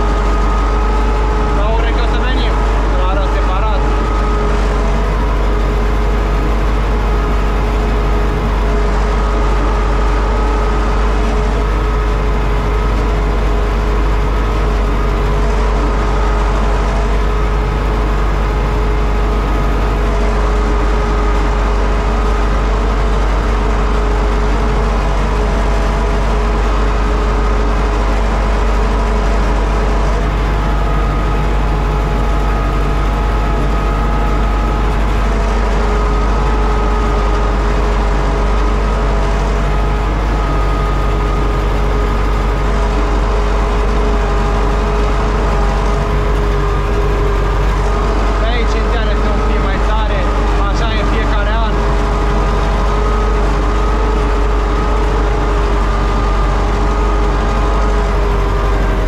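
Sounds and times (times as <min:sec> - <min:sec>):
constant whine: 0:00.0 - 0:59.0
tractor diesel engine under load: 0:00.0 - 0:59.0.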